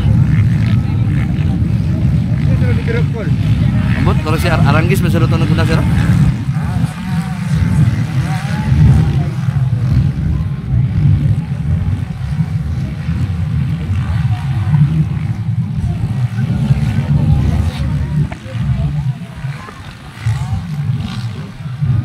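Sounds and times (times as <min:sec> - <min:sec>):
choppy low rumble: 0:00.0 - 0:22.0
distant motorcycle engines racing: 0:00.0 - 0:22.0.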